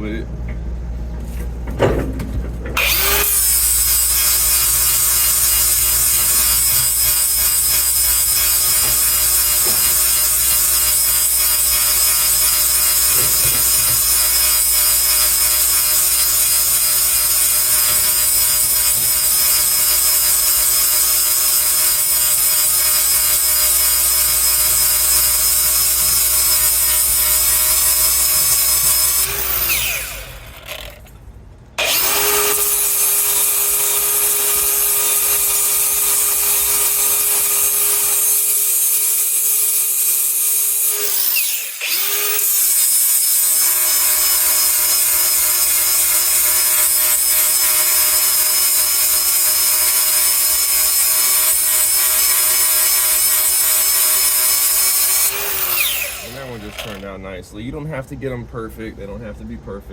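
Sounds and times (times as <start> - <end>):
power grinder grinding metal: 2.8 - 31.2, 31.8 - 57.2.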